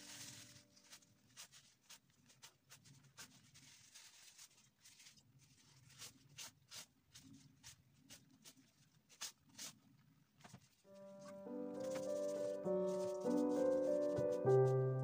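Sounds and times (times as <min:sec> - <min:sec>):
tissue rustling on canvas: 0:00.0 - 0:09.8, 0:10.6 - 0:15.0.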